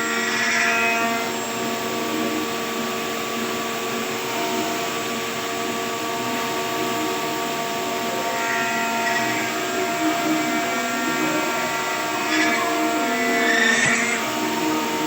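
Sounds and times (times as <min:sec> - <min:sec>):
woodworking machine whining: 0:00.0 - 0:15.0.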